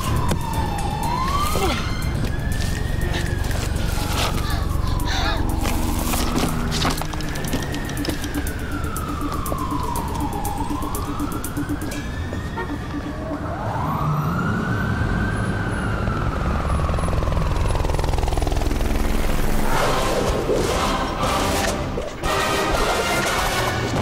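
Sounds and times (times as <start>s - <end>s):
siren wailing: 0.0s - 24.0s.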